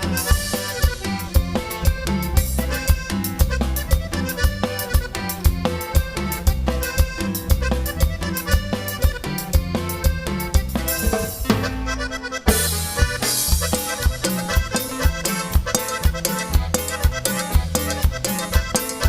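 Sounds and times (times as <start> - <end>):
accordion melody: 0.0 - 19.0
bass and drums: 0.0 - 19.0.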